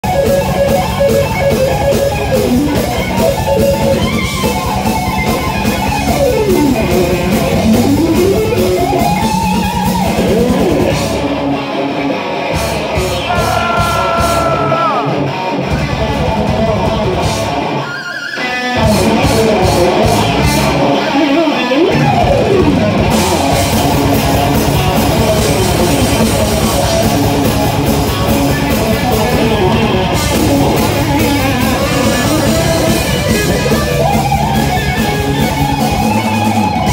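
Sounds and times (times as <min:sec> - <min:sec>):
distorted electric guitar runs: 0:00.0 - 0:36.9
heavy metal band playing: 0:00.0 - 0:36.9.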